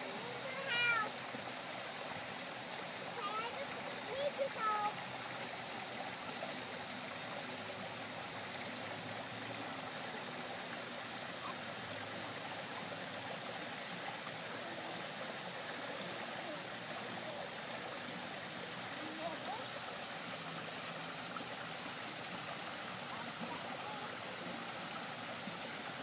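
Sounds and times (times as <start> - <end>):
water running over rocks: 0.0 - 26.0.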